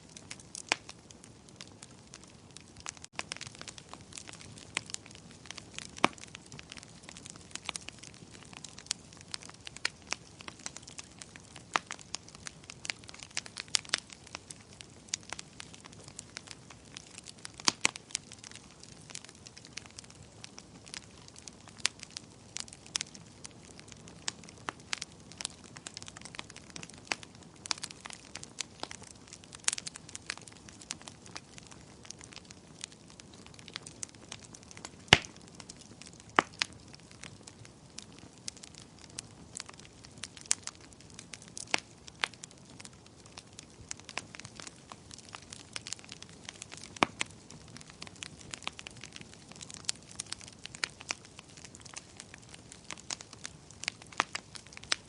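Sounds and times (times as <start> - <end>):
faint steady hiss: 0.0 - 55.0
wood fire crackling and popping: 0.0 - 55.0.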